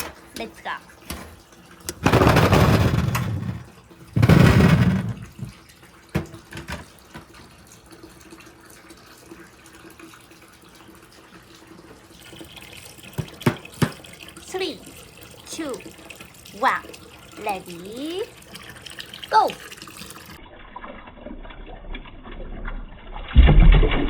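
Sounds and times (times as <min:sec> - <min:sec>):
faint water trickle: 0:00.0 - 0:02.0, 0:03.6 - 0:04.2, 0:05.2 - 0:23.2
water gushing and splashing: 0:00.0 - 0:10.7, 0:11.5 - 0:24.0.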